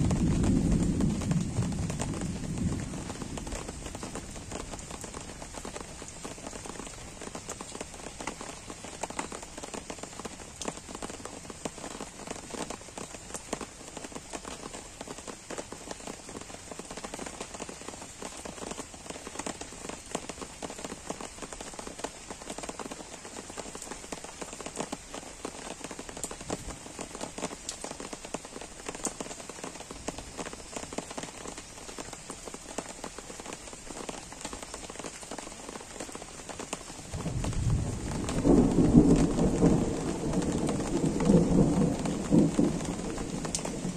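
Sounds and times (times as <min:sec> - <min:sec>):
gentle rain on trees and grass: 0:00.0 - 0:43.9
raindrops ticking: 0:00.0 - 0:43.9.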